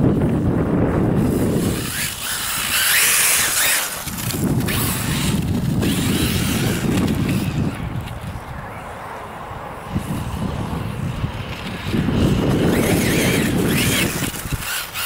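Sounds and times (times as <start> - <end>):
tyres spinning on sand: 0.0 - 8.6, 9.9 - 15.0
rc car motor whine: 0.0 - 8.9, 9.9 - 15.0
wind buffeting microphone: 0.0 - 15.0.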